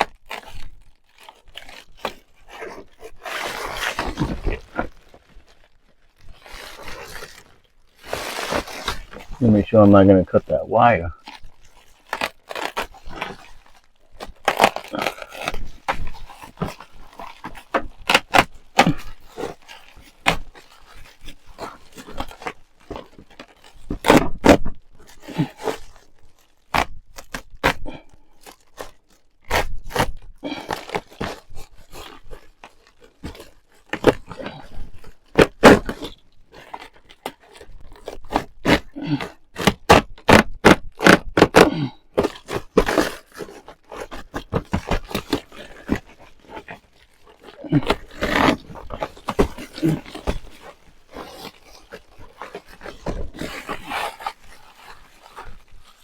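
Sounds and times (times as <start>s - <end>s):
scraping with sharp cracks: 0.0s - 56.0s.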